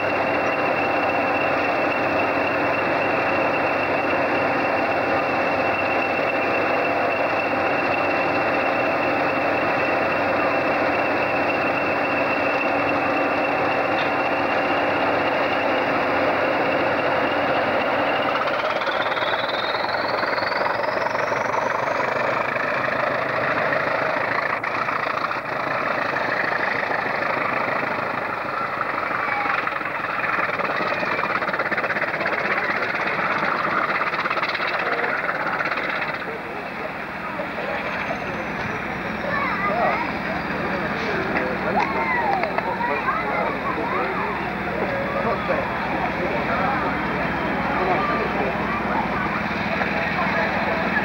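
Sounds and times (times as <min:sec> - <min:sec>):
turbocharger whistle: 0:00.0 - 0:49.3
diesel locomotive engines: 0:00.0 - 0:51.0.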